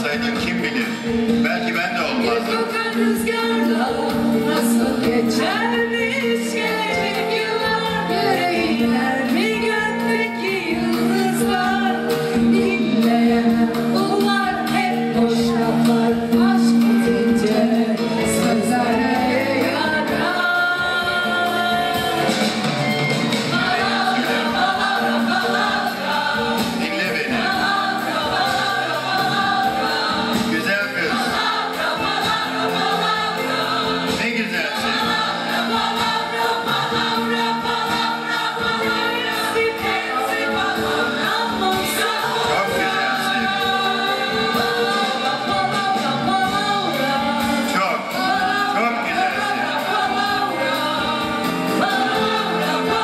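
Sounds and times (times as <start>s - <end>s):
choir singing: 0.0s - 53.0s
musical accompaniment: 0.0s - 53.0s
soloists singing: 0.0s - 53.0s.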